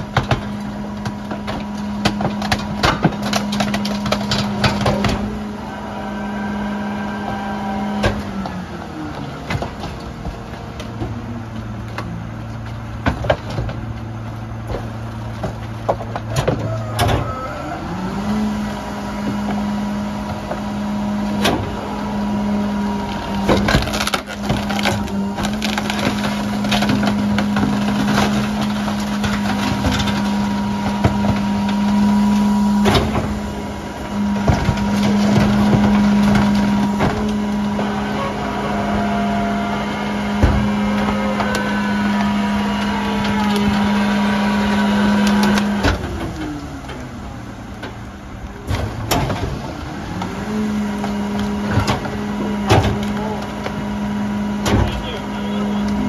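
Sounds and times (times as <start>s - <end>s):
garbage truck engine revving: 0.0s - 56.0s
trash cracking in hopper: 0.0s - 56.0s.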